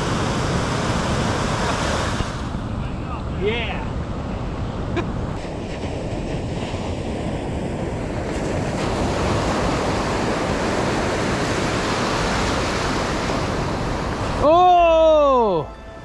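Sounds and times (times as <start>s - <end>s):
wind on microphone: 0.0s - 14.4s
ocean surf breaking: 0.0s - 15.6s.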